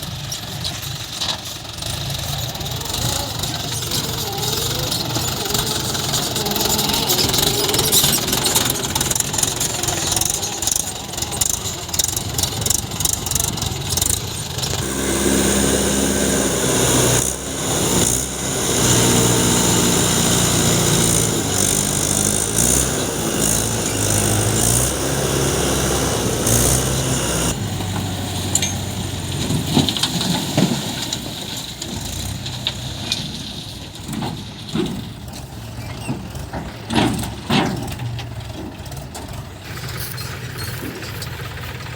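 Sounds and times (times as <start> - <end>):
diesel engine running: 0.0 - 41.9
engine knocks: 0.0 - 41.9.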